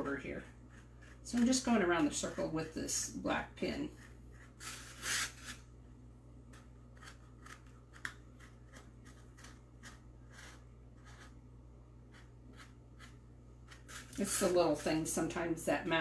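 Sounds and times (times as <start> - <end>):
pen scratching on pumpkin: 0.1 - 5.6, 6.5 - 11.4, 12.0 - 15.3.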